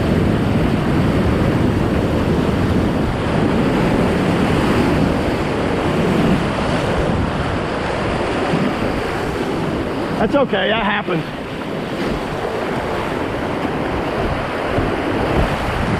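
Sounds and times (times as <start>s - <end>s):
whitewater rushing over rocks: 0.0s - 15.9s
wind noise on microphone: 0.0s - 15.9s.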